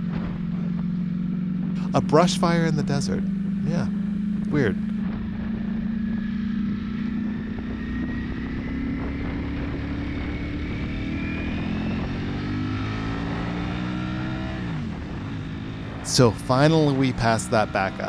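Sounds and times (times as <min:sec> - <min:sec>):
motorcycle engine accelerating: 0:00.0 - 0:18.0
wind and road rush: 0:00.0 - 0:18.0.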